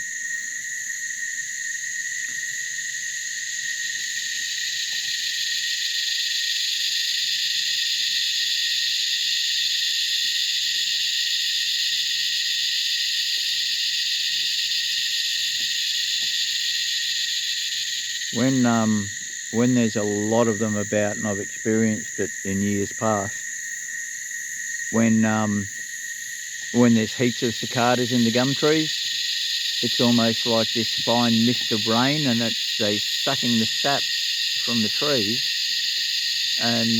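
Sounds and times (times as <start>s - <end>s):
cicada chorus: 0.0s - 36.9s.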